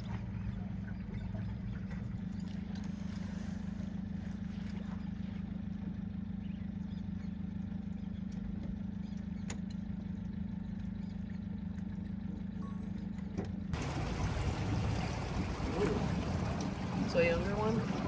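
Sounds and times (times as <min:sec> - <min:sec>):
boat motor droning: 0:00.0 - 0:18.0.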